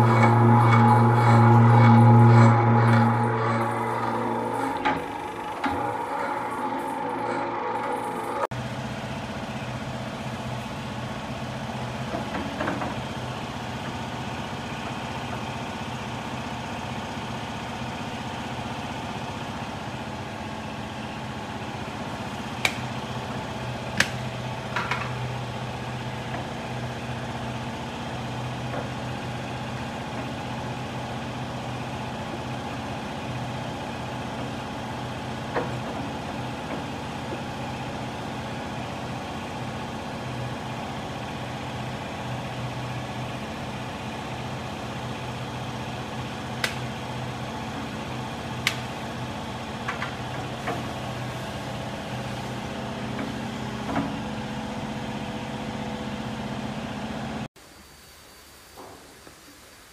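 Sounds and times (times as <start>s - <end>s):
machinery humming: 0.0s - 57.5s.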